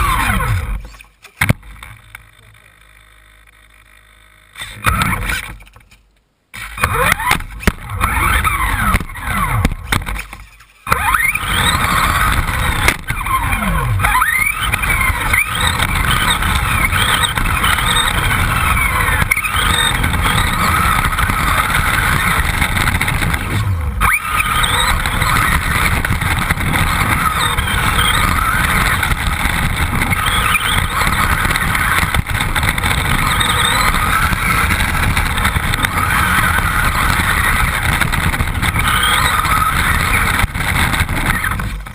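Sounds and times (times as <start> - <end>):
toy car motor whine: 0.0 - 5.7, 6.6 - 41.9
steady rough noise: 0.0 - 41.9.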